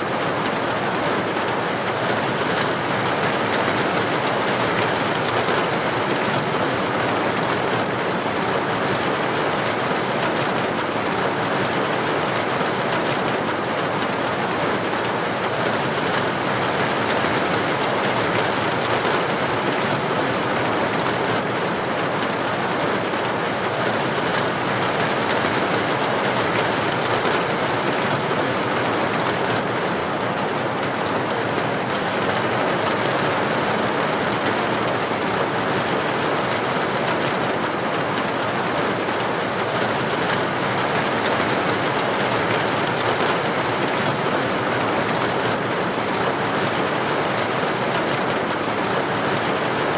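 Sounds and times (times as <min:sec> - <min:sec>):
heavy rain on a street: 0:00.0 - 0:49.9.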